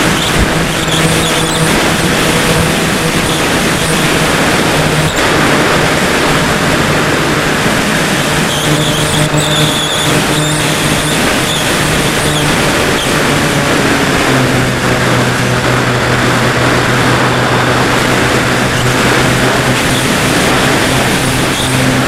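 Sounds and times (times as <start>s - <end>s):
electric motor and propeller droning: 0.0s - 22.0s
wind rushing over microphone: 0.0s - 22.0s.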